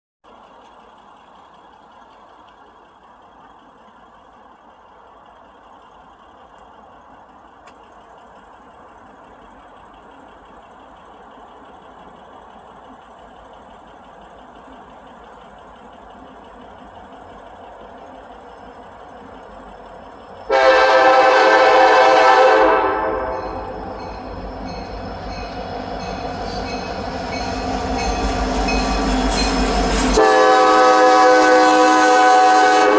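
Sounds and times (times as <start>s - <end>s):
diesel locomotive engine drone: 0.2s - 32.9s.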